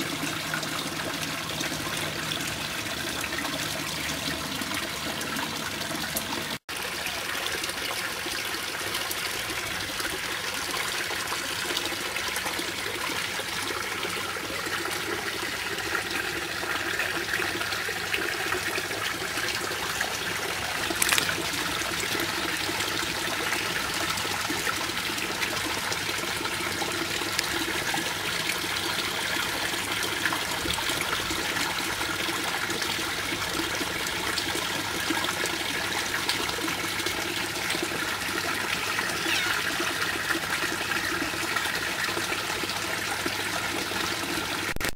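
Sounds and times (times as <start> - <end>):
water trickling into fish tank: 0.0 - 44.9.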